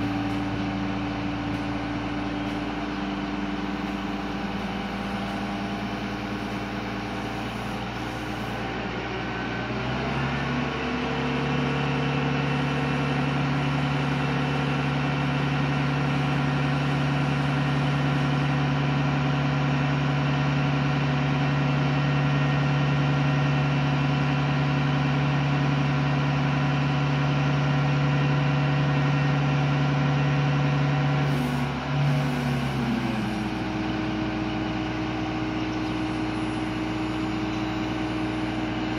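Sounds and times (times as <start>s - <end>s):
crane engine running: 0.0s - 38.9s.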